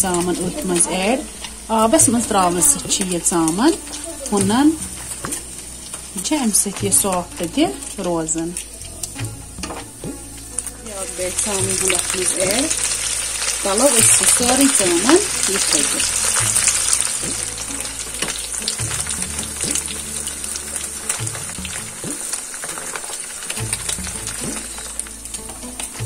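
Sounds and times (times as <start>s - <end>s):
cheese sizzling in hot oil: 0.0s - 26.0s.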